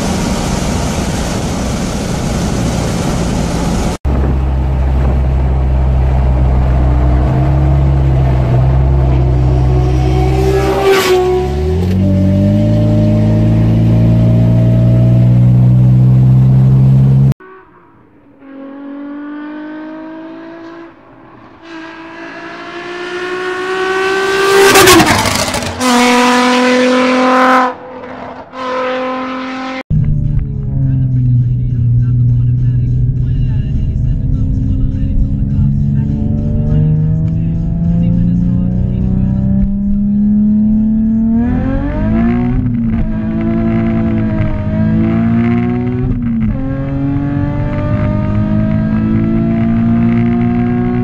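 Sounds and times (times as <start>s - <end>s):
car engine accelerating: 0.0s - 51.0s
car exhaust revving: 0.0s - 51.0s.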